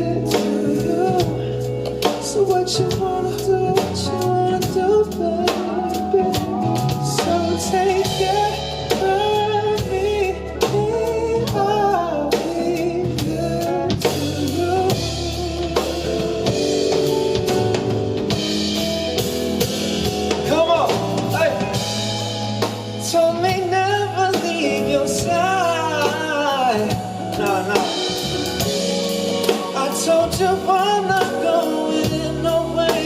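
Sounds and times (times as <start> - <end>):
person singing: 0.0 - 17.6, 23.0 - 33.0
drum kit beat: 0.0 - 33.0
live band playing: 0.0 - 33.0.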